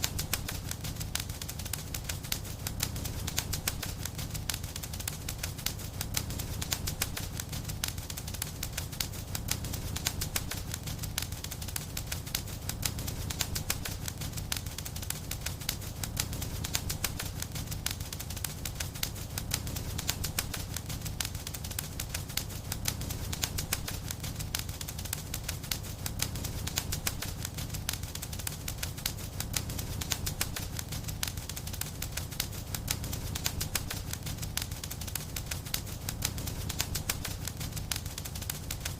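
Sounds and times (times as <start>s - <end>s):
sharp pops of burning wood: 0.0s - 38.9s
wood fire crackling: 0.0s - 38.9s.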